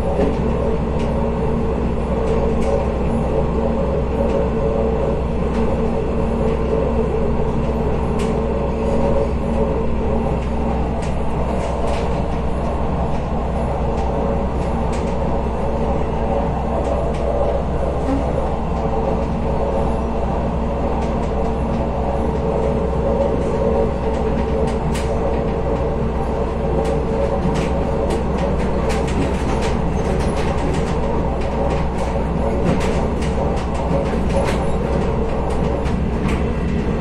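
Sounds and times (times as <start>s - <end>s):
train carriage rumble and hum: 0.0s - 37.0s.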